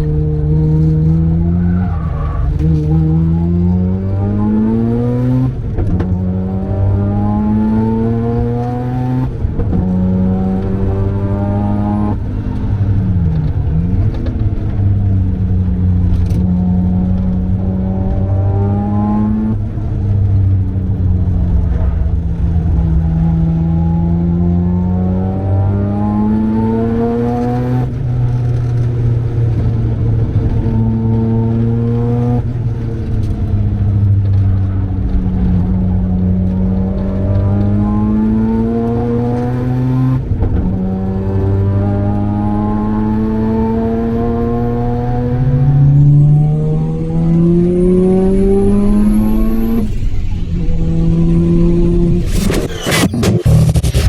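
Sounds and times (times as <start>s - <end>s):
rotary engine revving: 0.0s - 19.8s, 21.2s - 54.0s.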